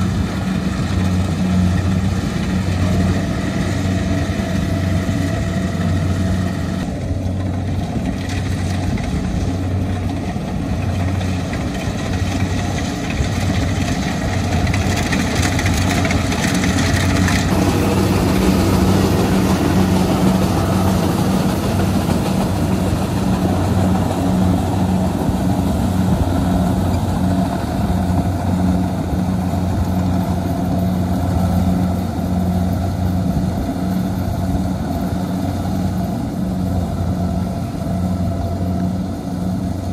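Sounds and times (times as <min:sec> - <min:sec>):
diesel engine droning under load: 0:00.0 - 0:39.9
harvesting machinery noise: 0:00.0 - 0:39.9.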